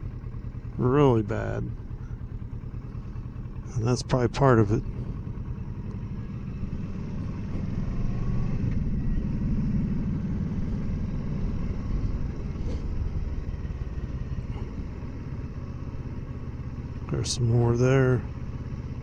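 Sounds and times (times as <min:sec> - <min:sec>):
motorcycle engine riding: 0:00.0 - 0:19.0.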